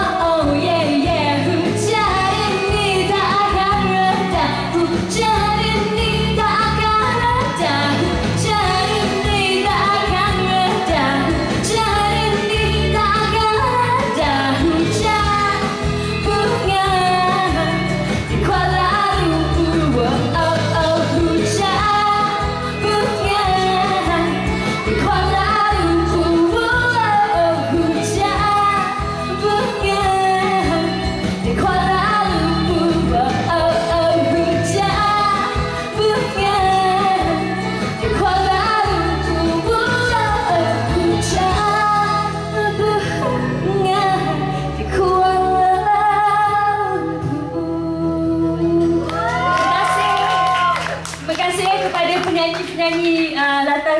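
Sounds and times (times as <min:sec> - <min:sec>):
musical accompaniment: 0:00.0 - 0:53.9
woman singing into microphone: 0:00.0 - 0:53.9.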